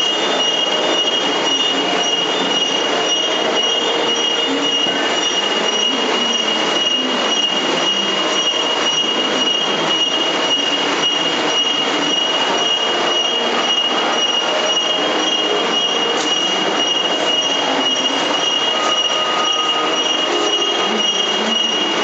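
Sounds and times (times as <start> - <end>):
high-pitched whine: 0.0 - 22.0
industrial machine running: 0.0 - 22.0.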